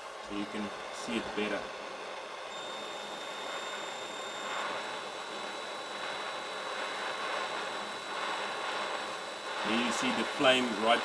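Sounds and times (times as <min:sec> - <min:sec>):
blowtorch flame hissing: 0:00.0 - 0:11.0
faint high whine: 0:00.0 - 0:11.0.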